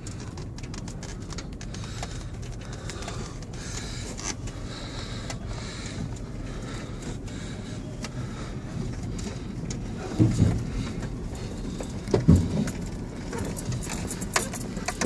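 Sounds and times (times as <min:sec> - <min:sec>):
truck engine and tyres rumbling: 0:00.0 - 0:15.0
truck rattling over bumps: 0:00.0 - 0:15.0.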